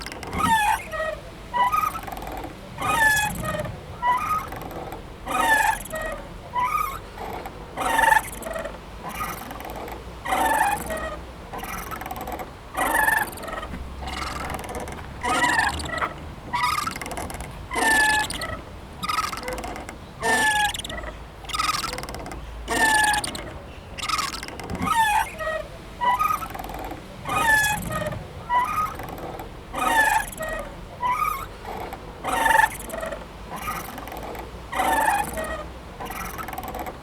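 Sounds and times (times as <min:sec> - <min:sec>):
playground swing creaking and squeaking: 0:00.0 - 0:37.0.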